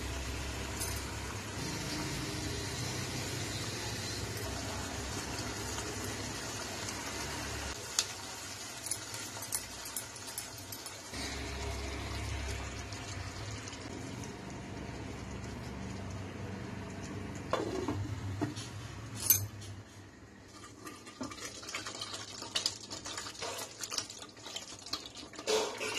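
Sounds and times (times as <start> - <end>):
gravy simmering and bubbling: 1.2 - 18.5, 20.2 - 25.9.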